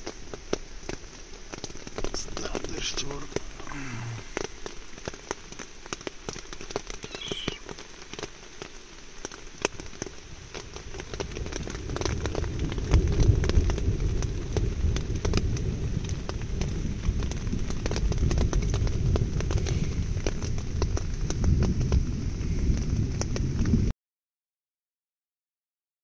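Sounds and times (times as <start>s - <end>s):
raindrops tapping: 0.0s - 23.9s.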